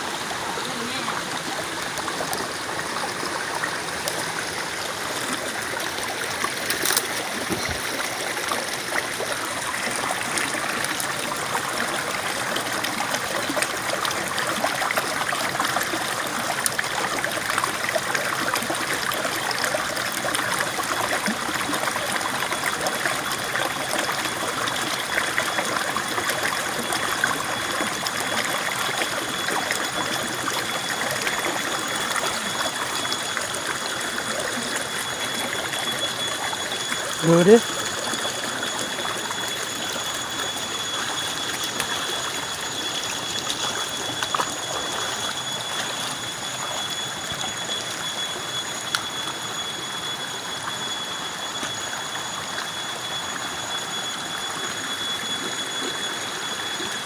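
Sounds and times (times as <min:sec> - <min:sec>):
stream water over rocks: 0:00.0 - 0:57.0.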